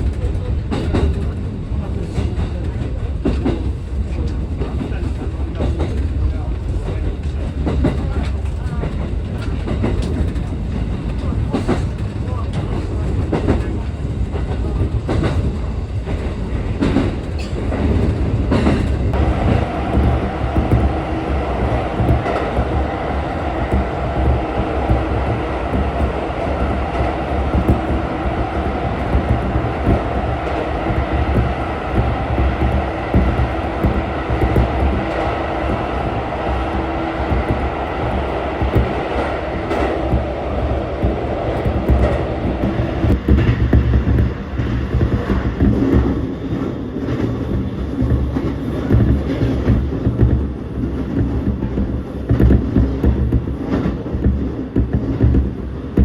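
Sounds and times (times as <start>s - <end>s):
train running gear rumble: 0.0s - 56.0s.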